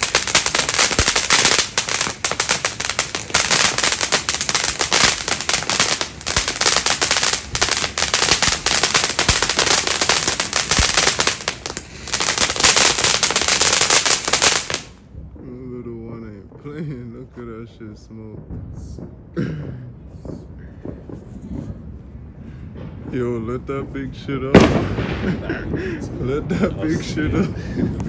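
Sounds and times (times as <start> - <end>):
fireworks cracking and popping: 0.0 - 15.5, 17.4 - 28.0.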